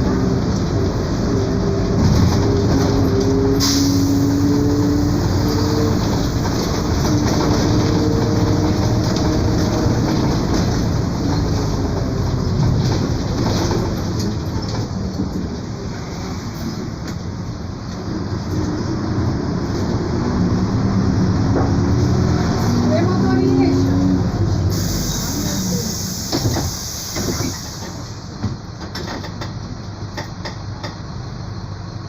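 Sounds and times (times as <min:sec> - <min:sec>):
bus engine rumble: 0:00.0 - 0:32.0.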